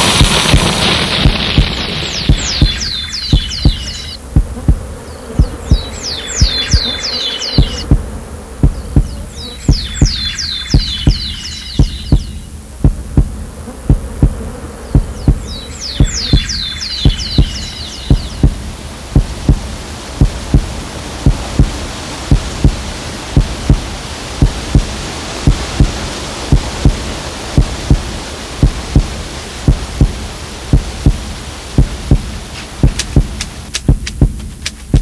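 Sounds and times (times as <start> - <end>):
constant hiss: 0.0 - 35.0
heartbeat thumps: 0.1 - 35.0.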